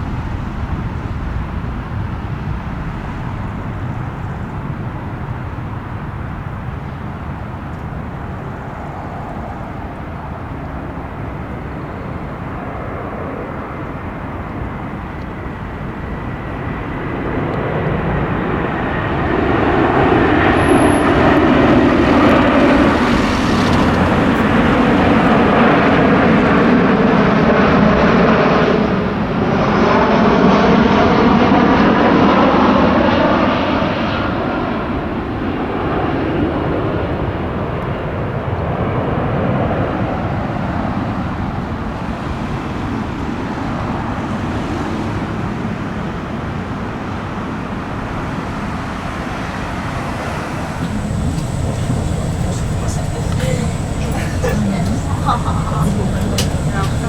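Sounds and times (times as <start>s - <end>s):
jet airliner passing by: 0.0s - 57.0s.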